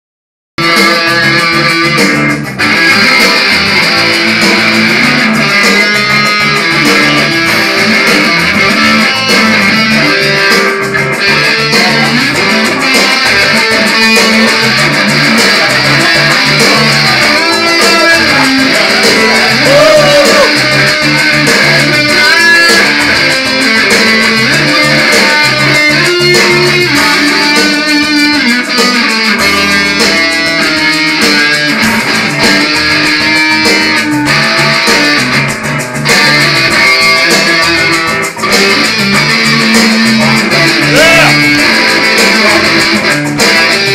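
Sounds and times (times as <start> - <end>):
electric guitar riffs: 0.6 - 43.9.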